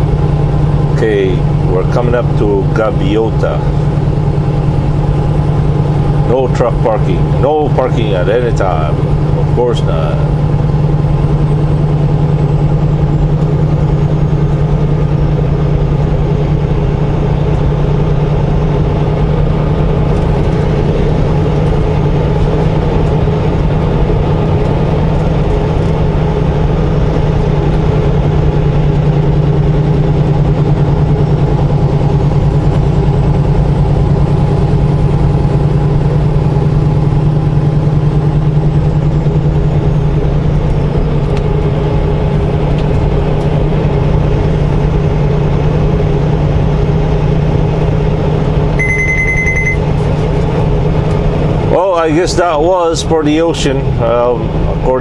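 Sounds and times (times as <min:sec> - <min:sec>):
road noise: 0:00.0 - 0:55.0
truck diesel engine droning: 0:00.0 - 0:55.0.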